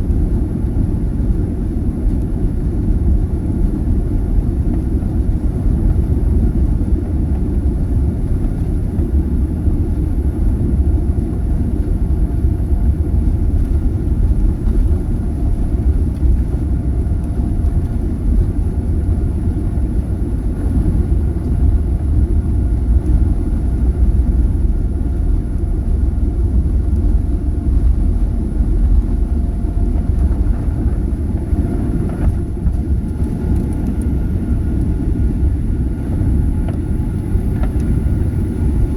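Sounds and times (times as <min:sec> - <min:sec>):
faint engine whine: 0:00.0 - 0:38.9
jet engines roaring on takeoff: 0:00.0 - 0:38.9.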